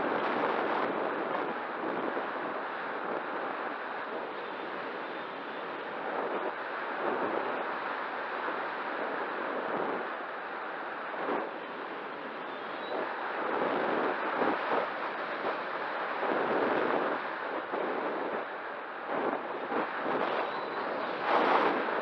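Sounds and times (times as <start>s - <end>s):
wind buffeting microphone: 0.0s - 10.4s, 11.1s - 22.0s.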